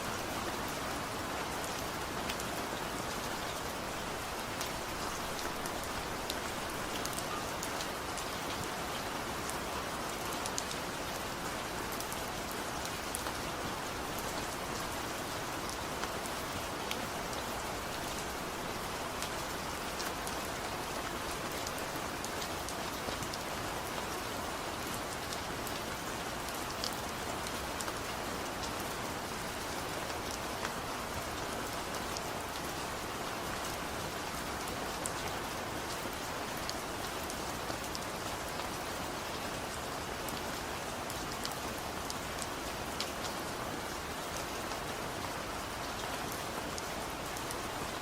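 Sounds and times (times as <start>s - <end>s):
raindrops ticking on a surface: 1.0s - 48.0s.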